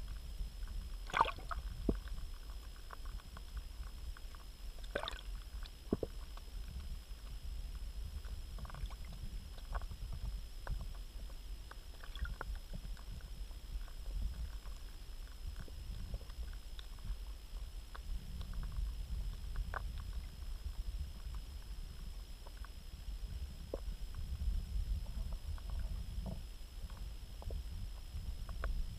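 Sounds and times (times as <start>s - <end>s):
small clicks and pops: 0.0s - 28.9s
underwater rumble of moving water: 0.0s - 28.9s.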